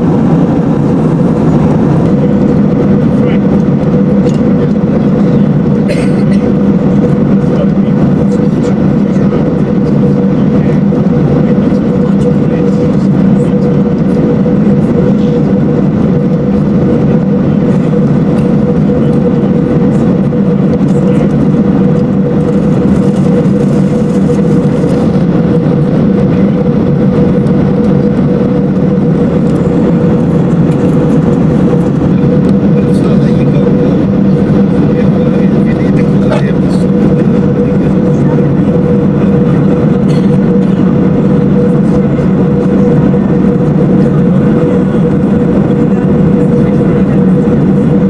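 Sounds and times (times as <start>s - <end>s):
airliner cabin airflow rush: 0.0s - 48.0s
constant low hum: 0.0s - 48.0s.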